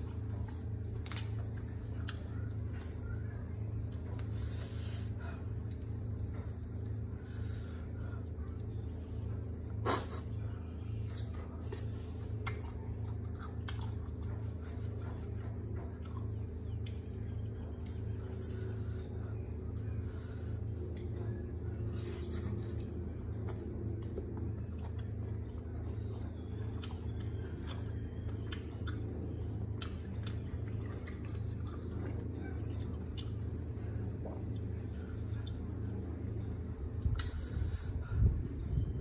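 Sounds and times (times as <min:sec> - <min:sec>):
wet chewing squelches: 0:00.0 - 0:38.8
steady low hum: 0:00.0 - 0:39.0.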